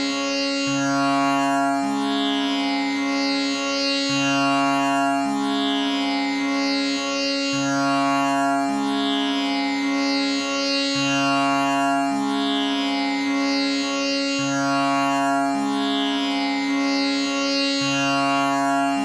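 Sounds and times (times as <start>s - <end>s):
tanpura drone: 0.0s - 19.0s.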